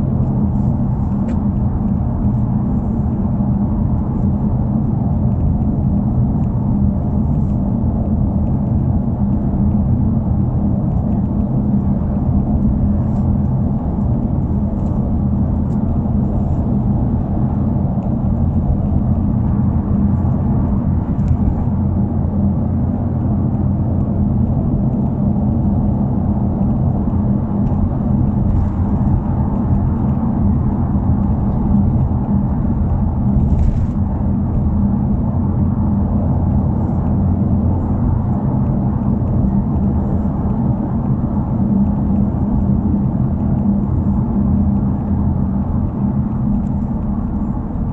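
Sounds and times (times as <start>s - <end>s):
car engine and exhaust droning: 0.0s - 47.9s.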